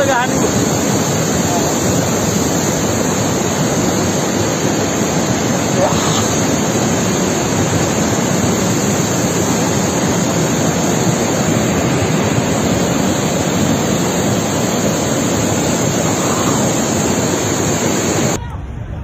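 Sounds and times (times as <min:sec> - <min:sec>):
flooded river rushing: 0:00.0 - 0:18.4.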